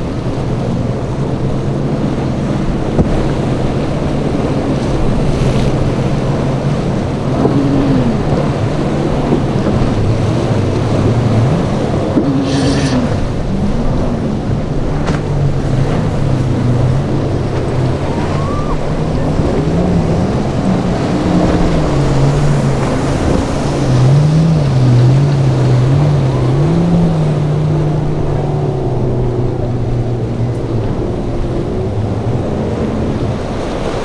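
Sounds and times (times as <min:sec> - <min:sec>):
boat outboard engines running: 0:00.0 - 0:34.0
surf rushing: 0:00.0 - 0:34.0
wind rumble on microphone: 0:00.0 - 0:34.0.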